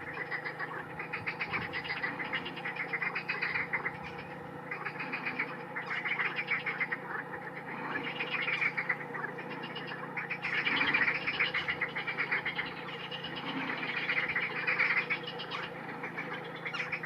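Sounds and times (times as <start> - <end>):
many birds chattering: 0.0 - 17.0
steady low hum: 0.0 - 17.0.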